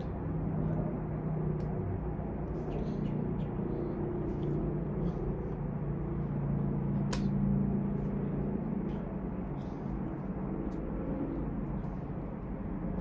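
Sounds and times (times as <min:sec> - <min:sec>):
low background rumble and hum: 0:00.0 - 0:13.0.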